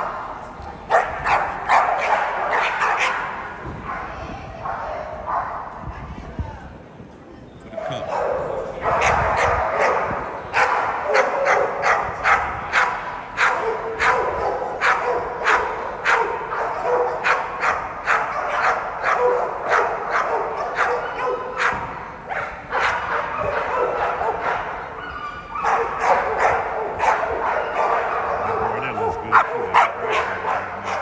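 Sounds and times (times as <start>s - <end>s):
dogs barking: 0.0s - 5.8s, 7.7s - 31.0s.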